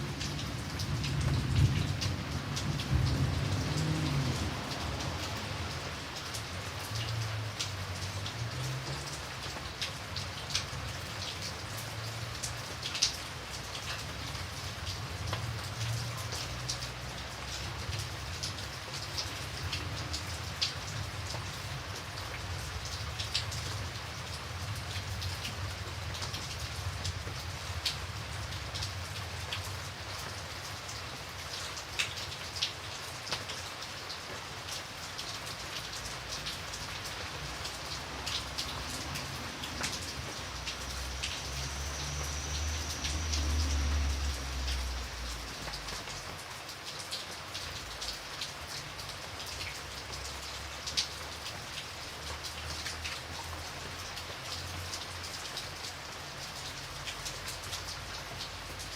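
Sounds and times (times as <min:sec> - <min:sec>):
rain drops tapping: 0:00.0 - 0:58.9.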